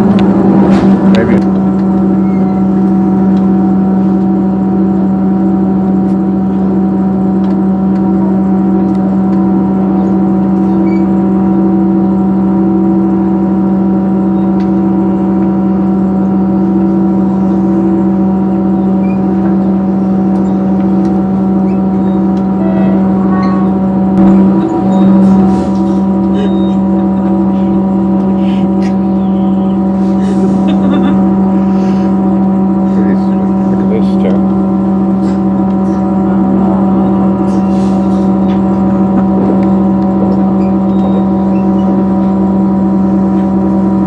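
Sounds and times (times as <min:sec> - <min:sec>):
train interior drone: 0:00.0 - 0:44.0.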